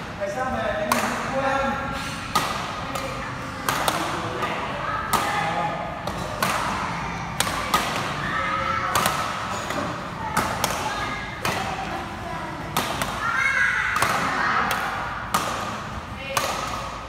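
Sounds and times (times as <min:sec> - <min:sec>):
voices talking: 0:00.1 - 0:17.0
rackets hitting shuttlecock: 0:00.8 - 0:01.4, 0:02.0 - 0:17.0.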